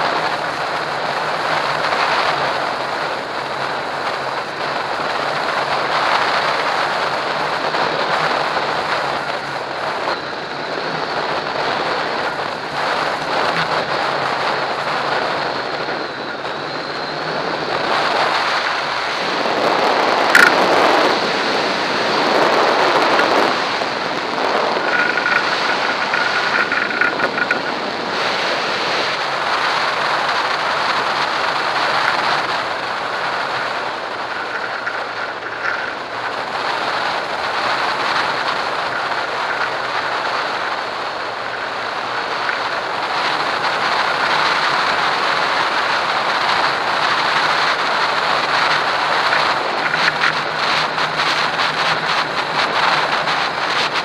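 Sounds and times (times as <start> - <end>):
faint high whine: 0.0 - 54.0
wind buffeting microphone: 0.0 - 54.0.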